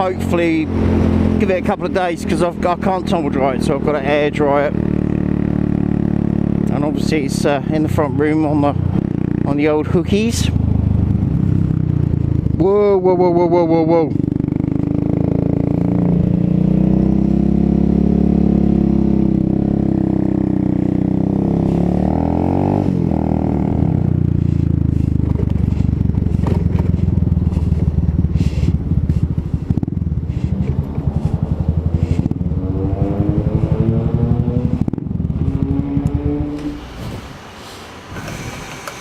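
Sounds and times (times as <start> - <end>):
motorcycle engine idling and revving: 0.0 - 39.0.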